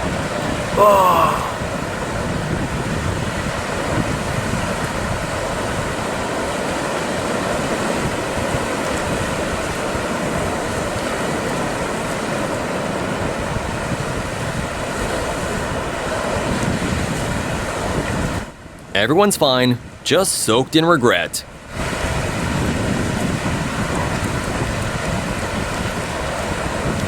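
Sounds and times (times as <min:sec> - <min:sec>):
waves and surf: 0:02.0 - 0:27.0.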